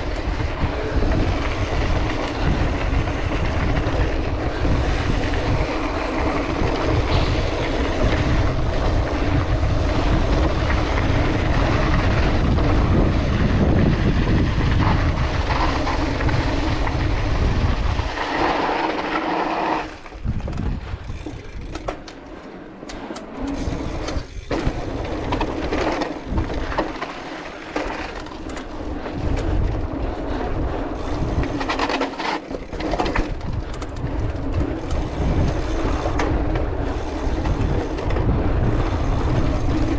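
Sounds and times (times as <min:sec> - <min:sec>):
bike clicks and knocks: 0:00.0 - 0:39.9
bike tyres rumbling on dirt: 0:00.0 - 0:39.9
wind on camera: 0:00.0 - 0:39.9.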